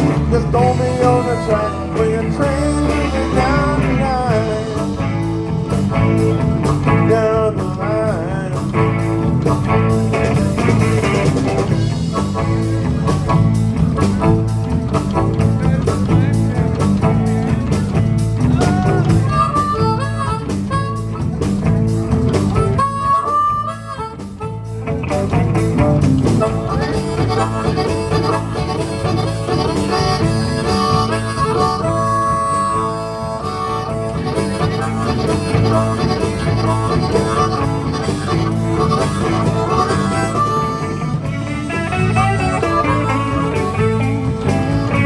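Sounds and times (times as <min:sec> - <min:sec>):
blues band playing: 0:00.0 - 0:45.0
harmonica solo: 0:00.0 - 0:45.0.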